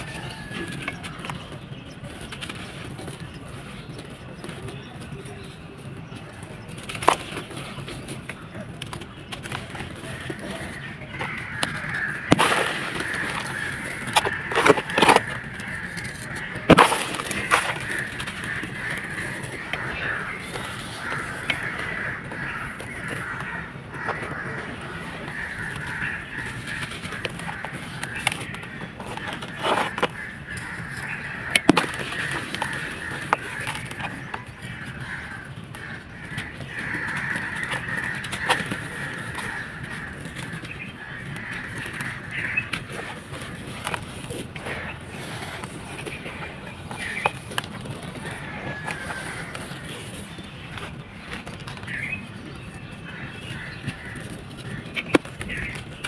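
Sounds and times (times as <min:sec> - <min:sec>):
sand-cement balls crunching: 0:00.0 - 0:56.0.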